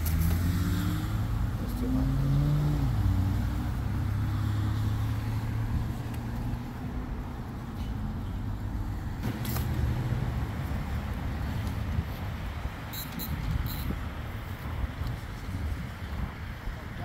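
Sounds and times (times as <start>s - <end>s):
low traffic rumble: 0.0s - 17.0s
vehicle engine hum: 0.0s - 17.0s.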